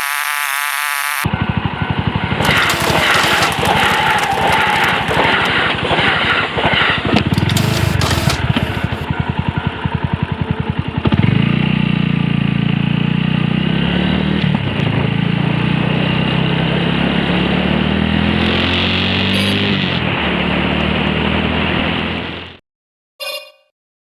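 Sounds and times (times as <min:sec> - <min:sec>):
motorcycle engine: 0:00.0 - 0:22.6.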